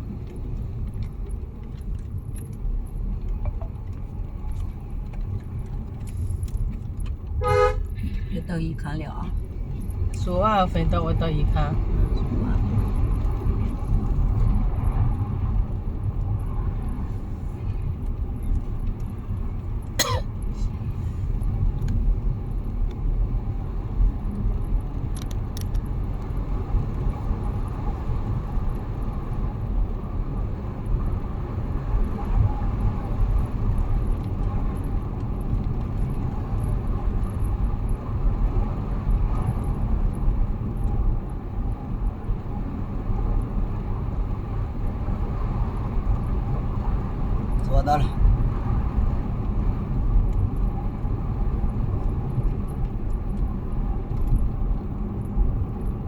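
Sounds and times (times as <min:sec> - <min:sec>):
car road rumble from inside: 0:00.0 - 0:56.0.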